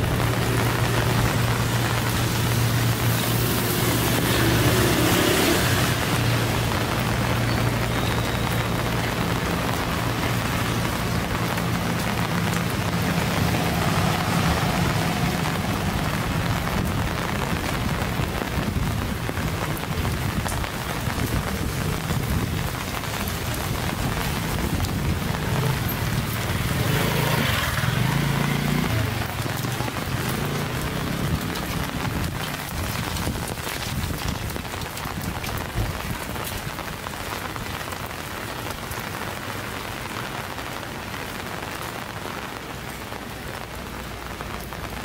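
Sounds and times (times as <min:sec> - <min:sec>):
rain on hard surfaces: 0:00.0 - 0:45.0.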